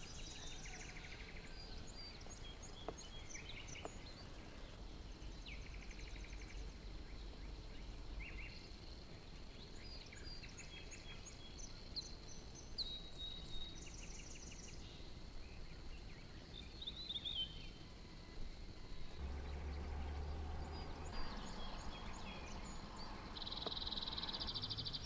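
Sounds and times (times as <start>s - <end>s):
birds trilling and chirping: 0.0s - 25.0s
faint low steady rumble: 0.0s - 25.0s.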